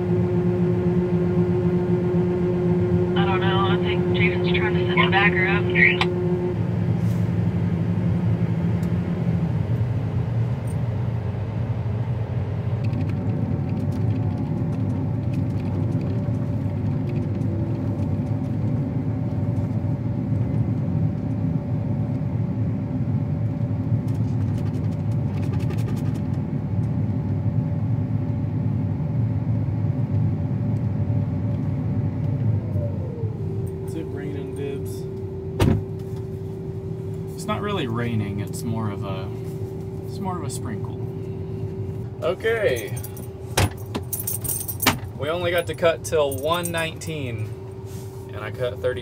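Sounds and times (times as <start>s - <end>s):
combine harvester drone: 0.0s - 49.0s.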